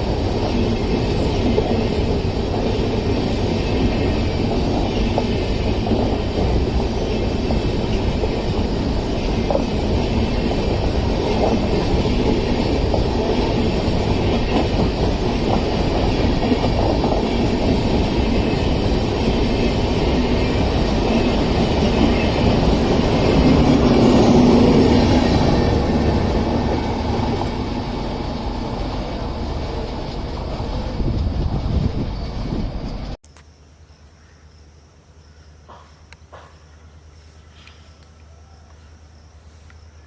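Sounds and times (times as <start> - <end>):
train rumble: 0.0 - 33.2
train wheels clicking on rails: 0.0 - 33.2.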